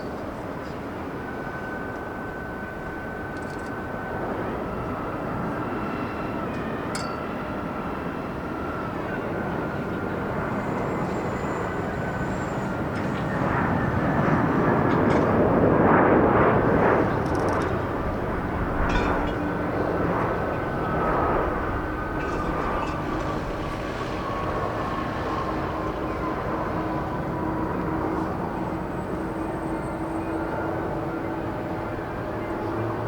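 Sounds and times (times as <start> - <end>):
jet airliner passing low: 0.0 - 33.0
thin jet engine whine: 0.0 - 33.0.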